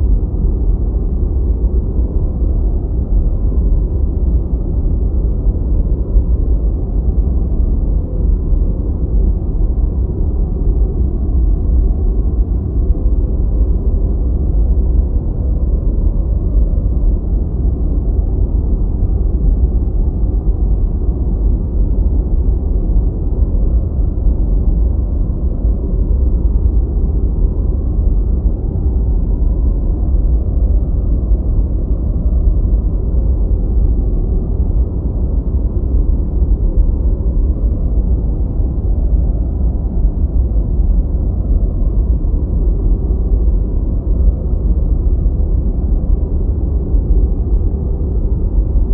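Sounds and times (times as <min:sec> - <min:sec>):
deep muffled white noise: 0:00.0 - 0:48.9.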